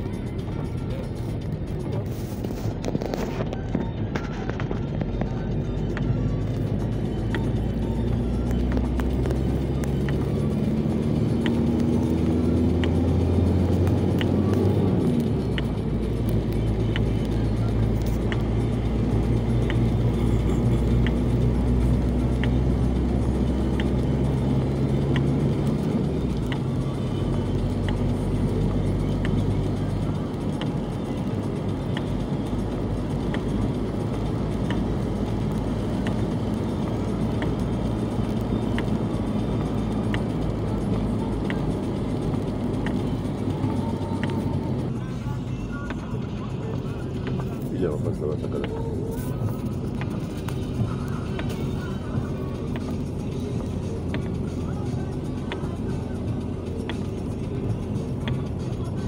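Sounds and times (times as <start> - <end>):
tyres on wet asphalt: 0.0 - 59.0
vehicle engine: 0.0 - 59.0.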